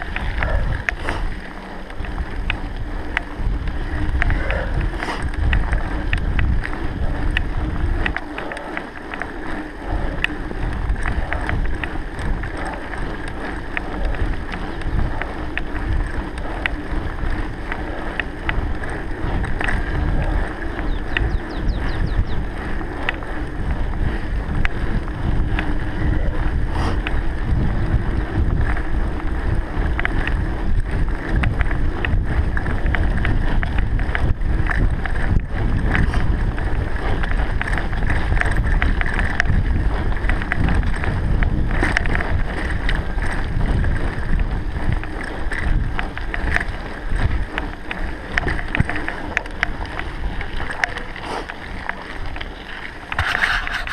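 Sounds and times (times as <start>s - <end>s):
small clicks and rattles: 0.0s - 53.9s
wind buffeting microphone: 0.0s - 53.9s.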